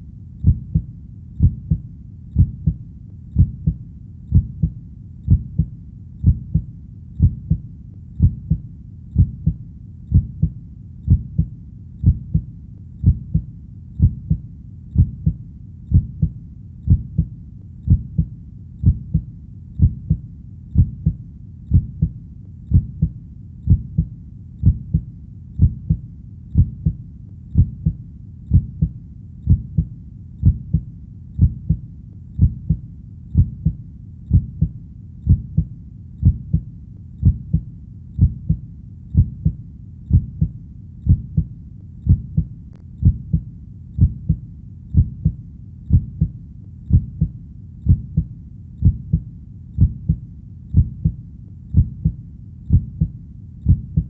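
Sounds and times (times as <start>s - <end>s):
heartbeat thumping: 0.4s - 31.8s, 32.4s - 54.0s.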